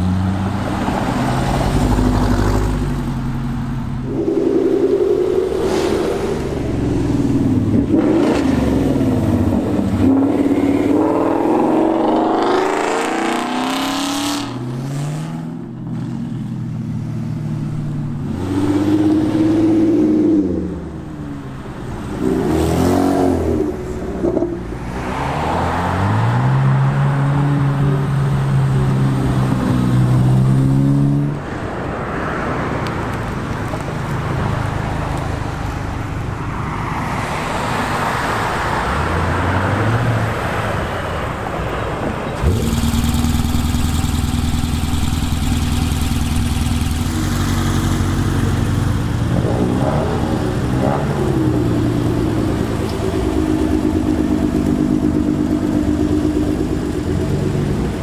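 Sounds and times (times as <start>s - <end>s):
cars accelerating past: 4.0s - 16.2s, 22.0s - 58.0s.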